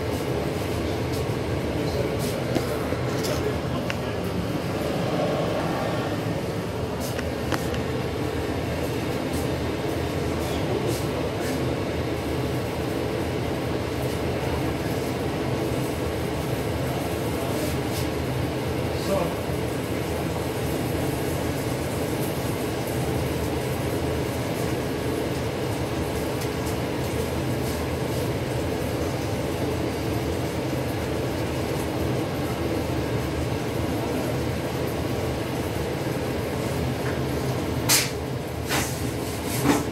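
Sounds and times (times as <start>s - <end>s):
kitchen machinery humming: 0.0s - 39.9s.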